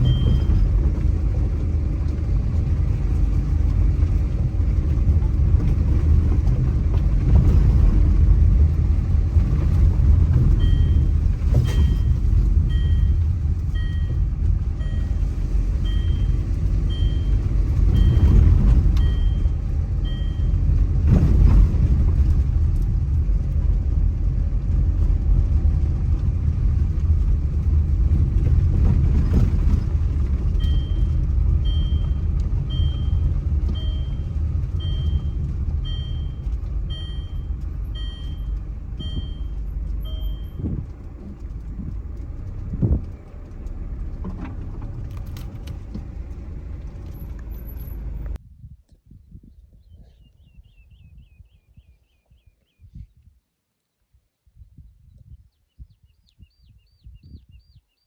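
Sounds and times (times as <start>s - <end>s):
steady low rumble: 0.0s - 53.4s.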